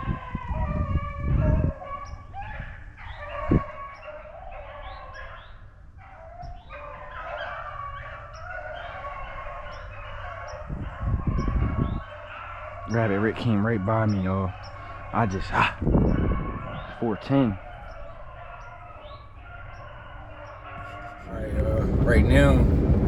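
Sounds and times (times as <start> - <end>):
hounds baying: 0.0 - 23.0.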